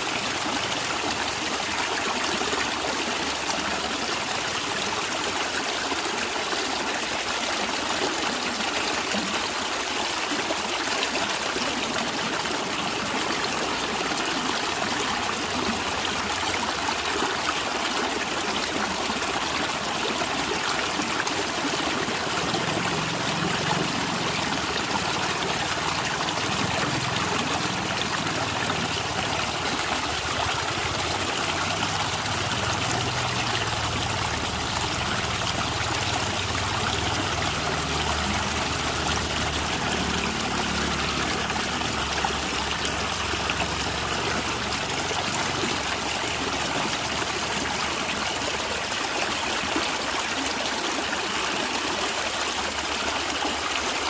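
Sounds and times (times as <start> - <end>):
stream water trickling: 0.0 - 54.0.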